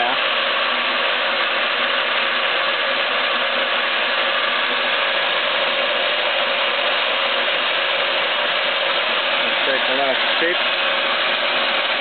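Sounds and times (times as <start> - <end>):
milling machine whir and gear chatter: 0.0 - 12.0.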